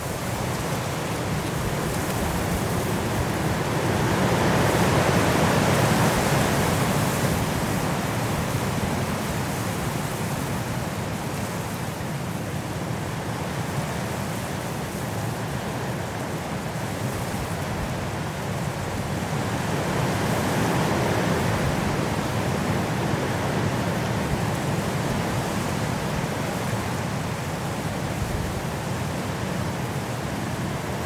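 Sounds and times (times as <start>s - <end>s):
strong wind gusting through trees: 0.0s - 31.0s.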